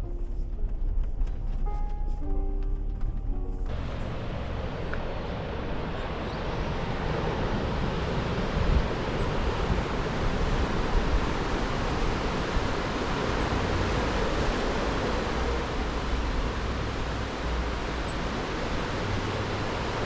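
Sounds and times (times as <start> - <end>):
wind buffeting microphone: 3.1 - 20.0
ocean surf washing on beach: 3.7 - 20.0.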